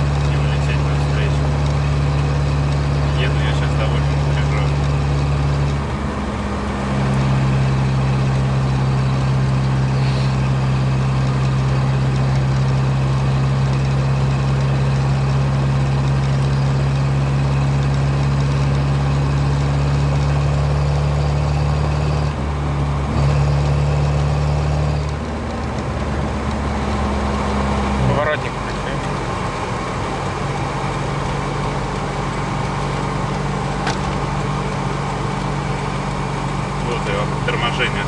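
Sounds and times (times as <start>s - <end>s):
car engine running: 0.0s - 38.0s
road noise: 0.0s - 38.0s.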